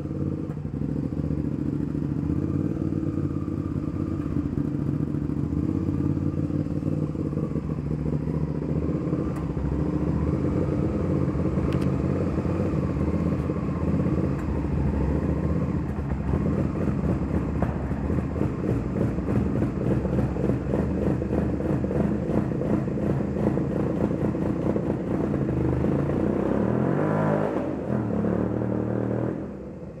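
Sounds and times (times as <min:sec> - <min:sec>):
motorcycle engine running: 0:00.0 - 0:26.6.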